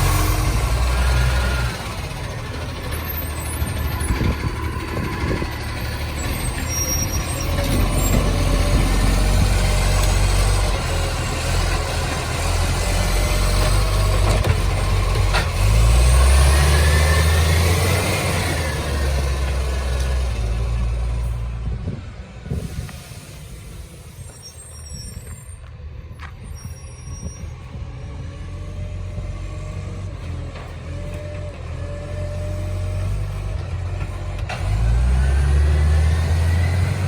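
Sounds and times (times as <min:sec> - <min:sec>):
truck diesel engine roaring: 0:00.0 - 0:37.0.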